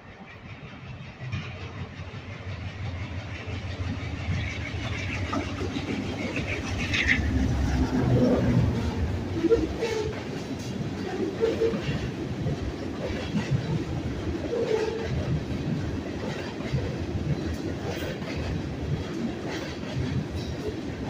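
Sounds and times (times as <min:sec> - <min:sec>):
freight train rumbling past: 0:00.0 - 0:21.0
wheels clacking over rail joints: 0:00.3 - 0:21.0.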